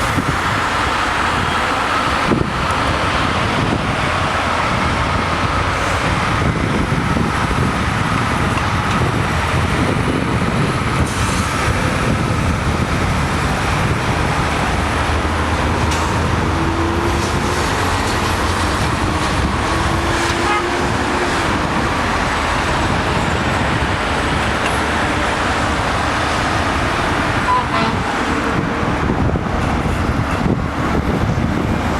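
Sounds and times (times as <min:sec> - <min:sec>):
freeway traffic noise: 0:00.0 - 0:31.9.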